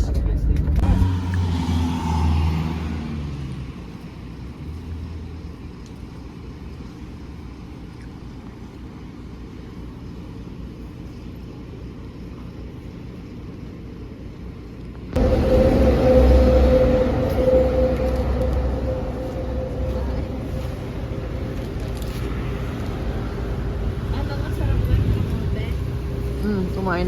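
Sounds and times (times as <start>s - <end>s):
bus rumble from inside: 0.0s - 27.0s.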